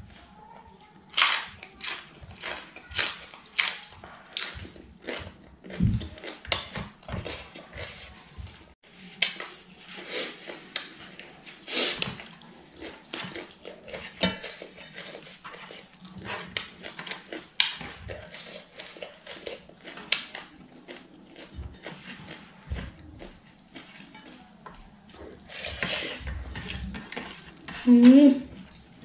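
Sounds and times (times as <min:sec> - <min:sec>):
chewing and lip-smacking: 0:00.7 - 0:08.1, 0:12.0 - 0:27.9.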